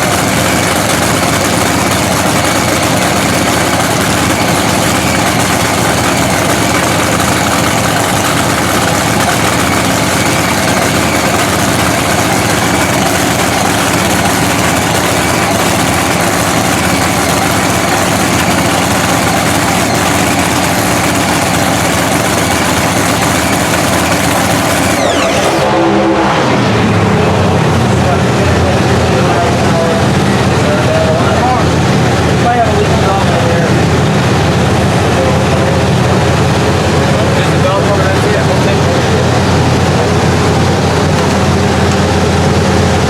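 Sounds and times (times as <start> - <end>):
drag racing engine idling: 0.0 - 43.0.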